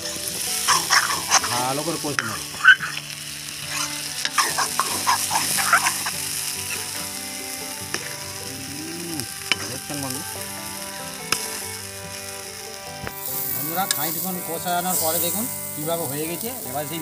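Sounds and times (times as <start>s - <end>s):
spatula scraping: 0.0s - 10.1s, 10.7s - 16.4s
meat sizzling in a pan: 0.0s - 17.0s.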